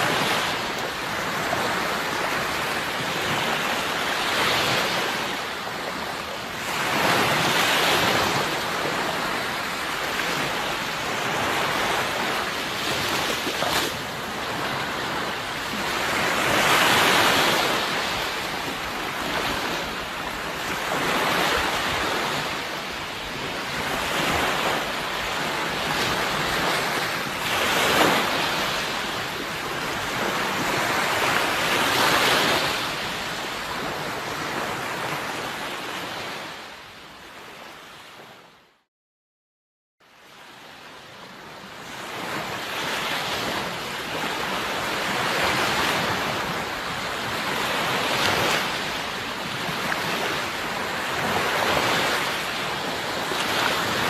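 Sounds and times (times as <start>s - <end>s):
sea waves breaking on shore: 0.0s - 38.6s, 40.0s - 54.0s.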